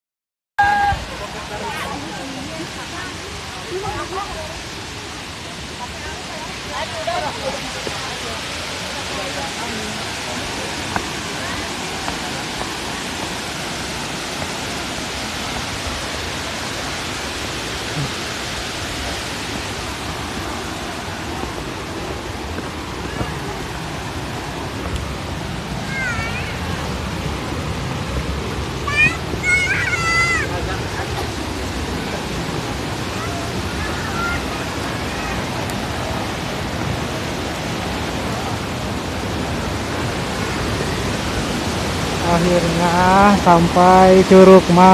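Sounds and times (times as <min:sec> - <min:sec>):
waterfall rushing: 0:00.6 - 0:44.9.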